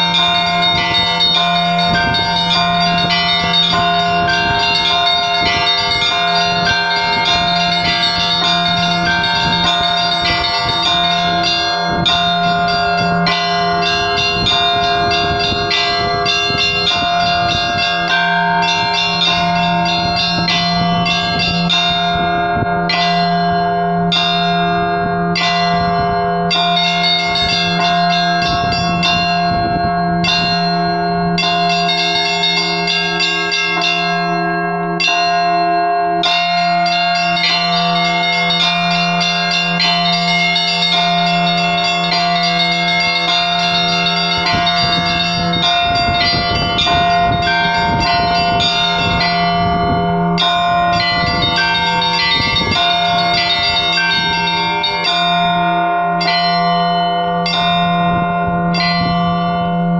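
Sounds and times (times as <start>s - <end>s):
large bell low hum: 0.0s - 59.9s
small high bells striking: 0.0s - 59.9s.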